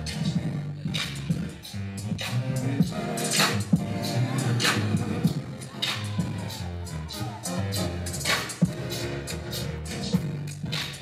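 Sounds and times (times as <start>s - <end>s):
hip hop music: 0.0s - 11.0s.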